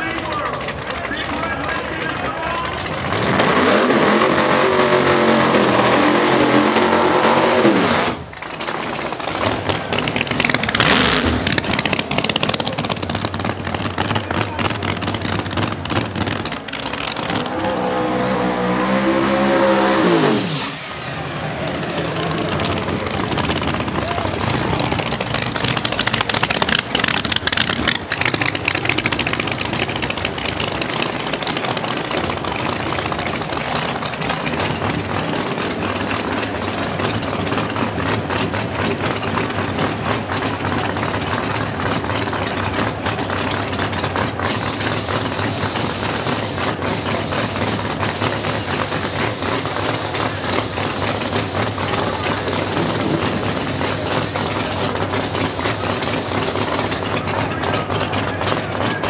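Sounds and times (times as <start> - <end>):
crowd chatter: 0.0 - 5.6, 6.3 - 59.0
race car engines idling and revving: 0.0 - 59.0.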